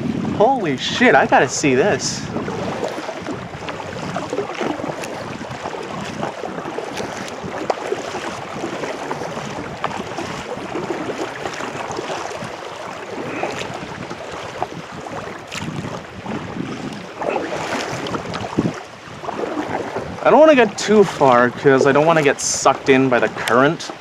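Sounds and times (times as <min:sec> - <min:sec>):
sea water splashing around kayak: 0:00.0 - 0:24.0.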